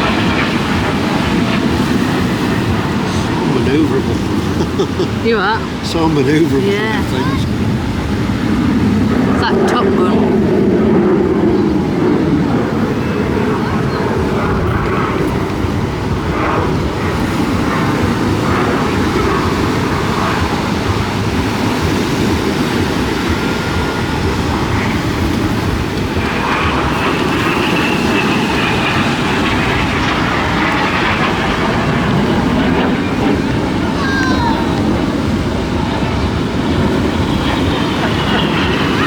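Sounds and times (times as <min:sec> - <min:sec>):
jet aircraft roaring overhead: 0:00.0 - 0:39.0.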